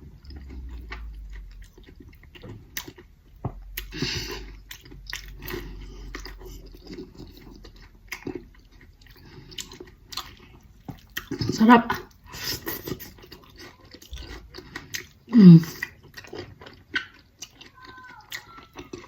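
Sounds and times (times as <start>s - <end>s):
person chewing wet smacks: 0.0s - 19.0s.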